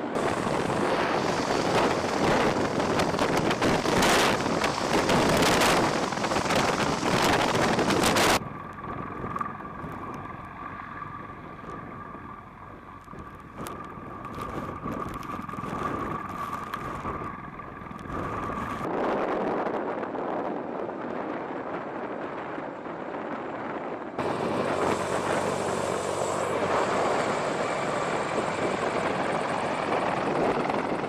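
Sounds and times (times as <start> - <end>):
helicopter roar: 0.0 - 19.0, 20.3 - 31.0
steady whine: 0.0 - 19.0, 24.2 - 31.0.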